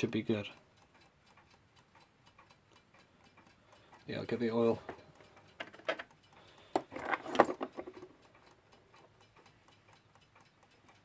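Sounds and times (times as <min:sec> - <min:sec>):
alarm clock ticking: 0:00.0 - 0:11.0.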